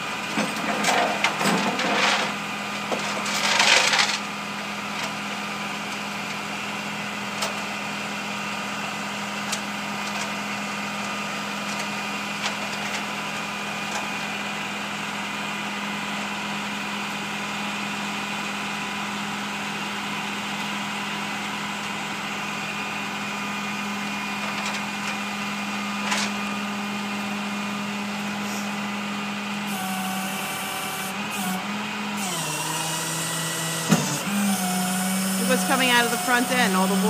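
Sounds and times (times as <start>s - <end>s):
truck engine humming: 4.2s - 37.0s.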